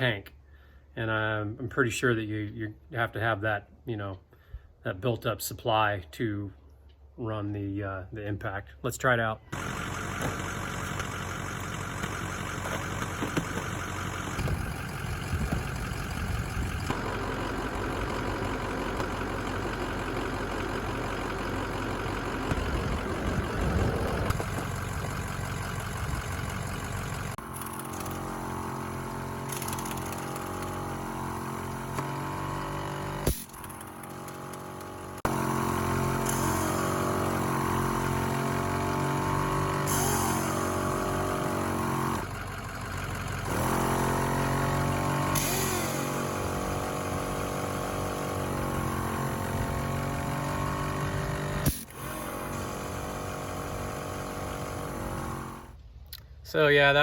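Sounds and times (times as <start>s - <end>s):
air compressor running: 9.5s - 55.8s.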